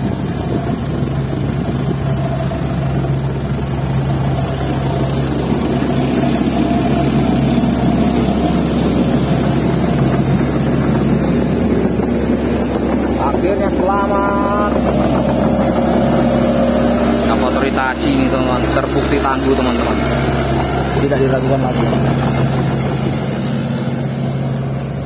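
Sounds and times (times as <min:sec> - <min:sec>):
excavator diesel engine: 0:00.0 - 0:25.0
truck diesel engine under load: 0:00.0 - 0:25.0.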